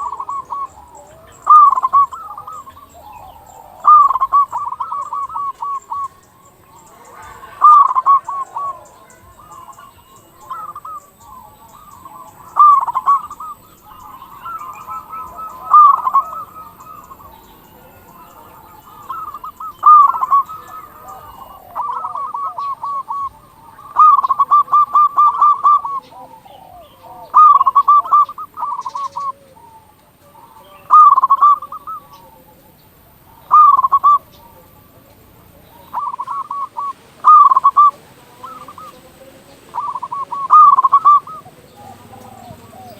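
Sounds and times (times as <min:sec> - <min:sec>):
dove cooing: 0:00.0 - 0:42.9.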